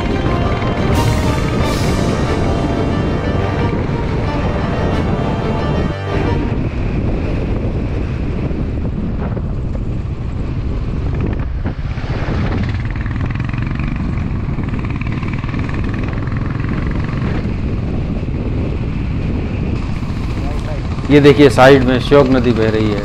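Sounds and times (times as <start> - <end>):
motorcycle engine drone: 0.0 - 23.0
rushing wind: 0.0 - 23.0.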